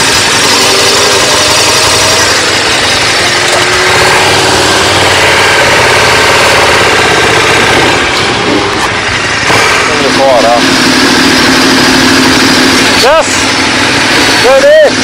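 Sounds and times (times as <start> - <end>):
motorcycle engine pulling away: 0.0 - 15.0.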